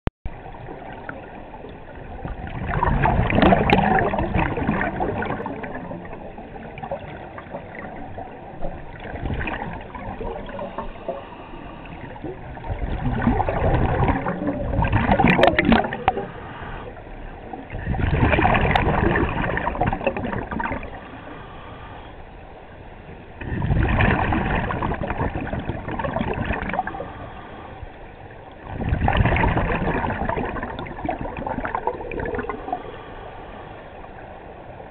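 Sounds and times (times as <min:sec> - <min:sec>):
underwater exhaust bubbles: 0:00.3 - 0:34.9.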